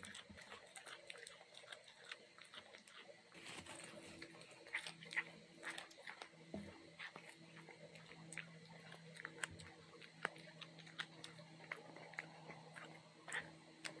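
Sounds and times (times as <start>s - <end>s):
cat chewing with sharp crunches: 0.0s - 14.0s
faint steady hum: 0.0s - 14.0s.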